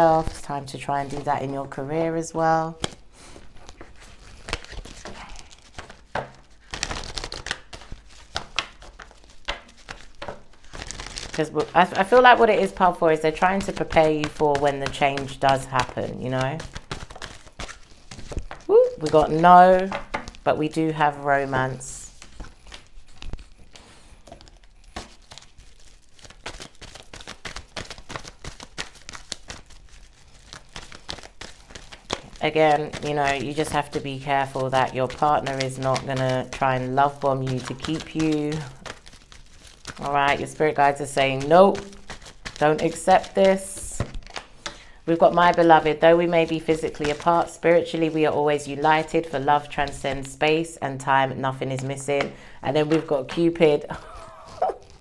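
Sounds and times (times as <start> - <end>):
cards being shuffled: 2.7 - 50.4, 51.7 - 55.0.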